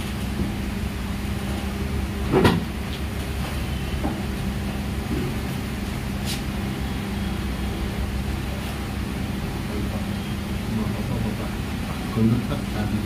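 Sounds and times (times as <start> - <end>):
mechanical hum of equipment: 0.0 - 13.0.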